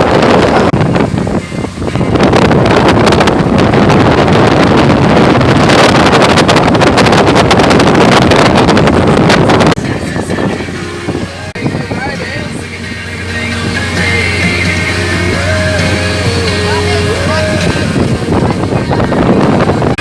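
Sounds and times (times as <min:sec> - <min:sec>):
motorboat running: 0:00.0 - 0:20.0
wind buffeting microphone: 0:00.0 - 0:20.0.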